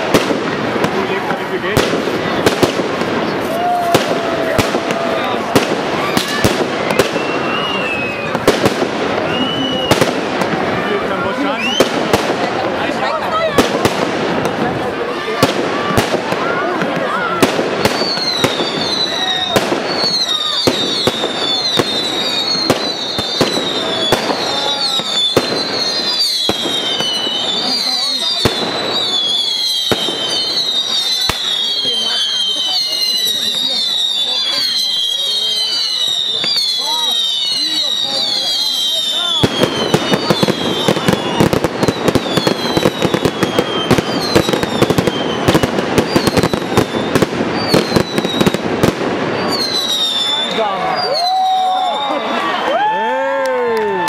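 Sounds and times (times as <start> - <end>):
high firework whistle: 1.8 - 12.3, 17.3 - 53.1.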